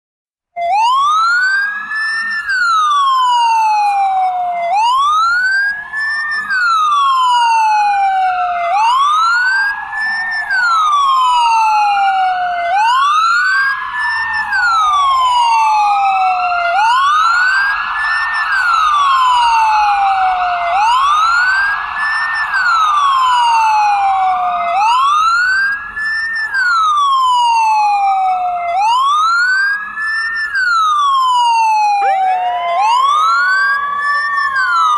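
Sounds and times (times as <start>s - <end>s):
ambulance siren wailing: 0.6s - 34.9s
fainter second siren sweep: 0.6s - 34.9s.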